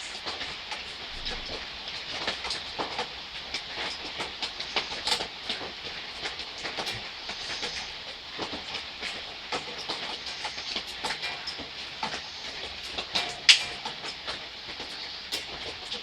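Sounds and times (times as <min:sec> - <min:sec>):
light rain falling: 0:00.0 - 0:16.0
raindrops ticking on surfaces: 0:00.0 - 0:16.0.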